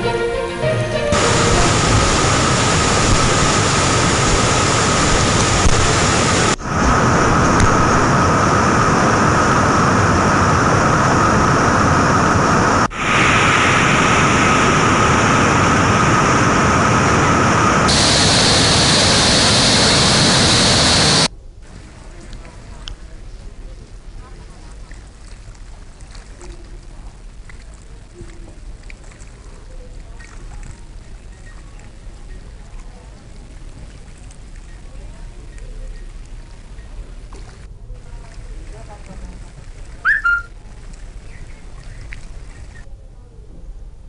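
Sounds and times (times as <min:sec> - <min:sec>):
water rushing through spillway: 0:01.1 - 0:42.9.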